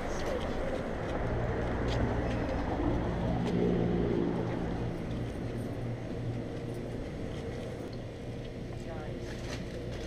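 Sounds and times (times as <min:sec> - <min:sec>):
low mechanical hum: 0:00.8 - 0:10.0.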